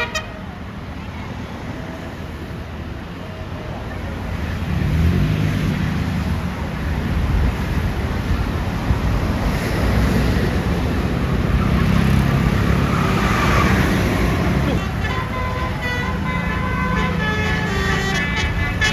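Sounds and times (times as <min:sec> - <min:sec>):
heavy vehicle engines rumbling: 0:00.0 - 0:18.9
road traffic passing: 0:00.0 - 0:18.9.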